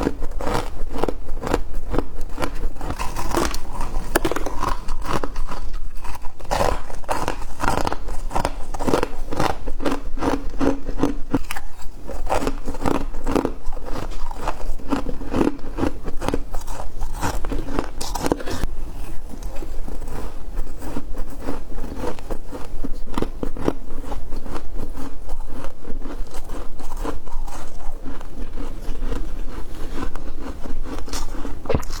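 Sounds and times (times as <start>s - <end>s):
frost being chewed crunching: 0.0s - 32.0s.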